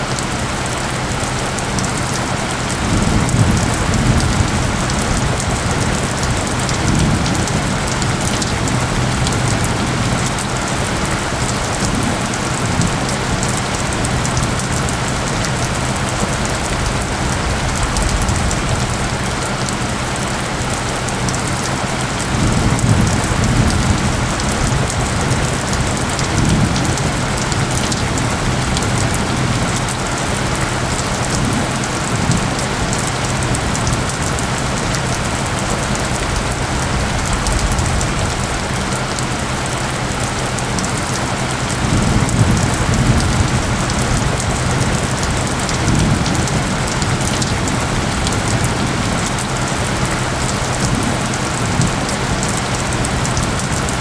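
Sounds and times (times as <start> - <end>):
heavy rain pattering: 0.0 - 54.0
low steady tones humming: 0.0 - 54.0
low rumbles: 2.4 - 54.0.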